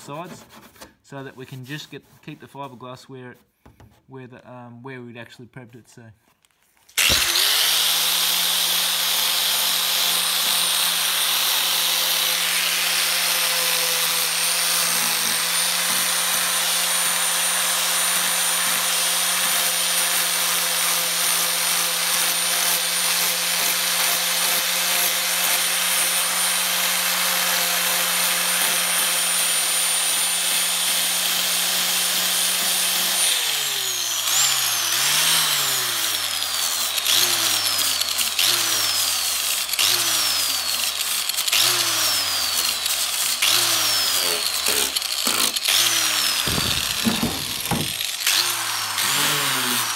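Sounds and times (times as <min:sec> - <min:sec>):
angle grinder grinding: 0:06.9 - 0:49.9.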